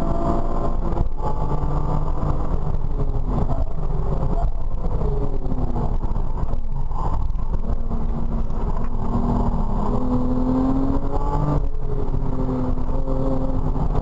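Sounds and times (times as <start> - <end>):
car engine from inside cabin: 0.0 - 14.0
tyre and road noise: 0.0 - 14.0.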